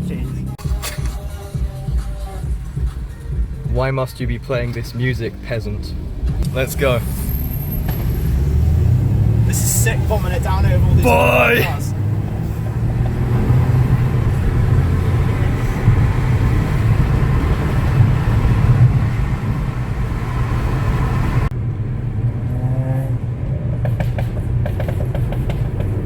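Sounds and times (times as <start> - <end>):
road noise inside car: 0.0 - 26.0
car engine drone: 4.6 - 26.0.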